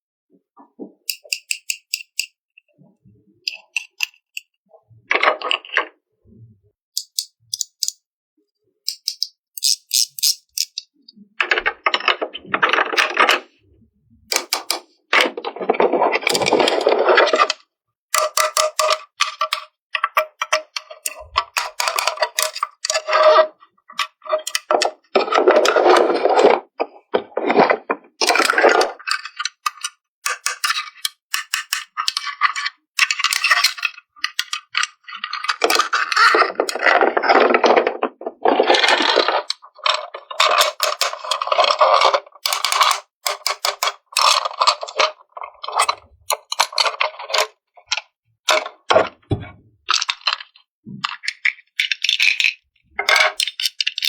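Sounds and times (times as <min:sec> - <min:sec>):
plastic toy parts clicking: 0:01.1 - 0:02.7, 0:03.4 - 0:05.9, 0:07.0 - 0:08.0, 0:08.8 - 0:11.7, 0:14.3 - 0:15.4, 0:16.3 - 0:26.5, 0:28.2 - 0:49.2, 0:49.9 - 0:54.0
plastic parts scraping: 0:01.1 - 0:08.0, 0:08.8 - 0:54.0.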